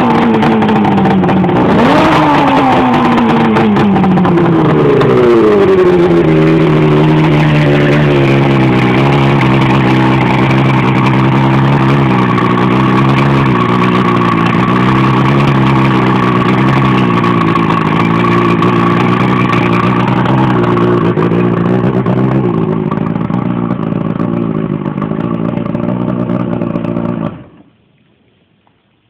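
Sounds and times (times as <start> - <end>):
outboard motor running: 0.0 - 27.7.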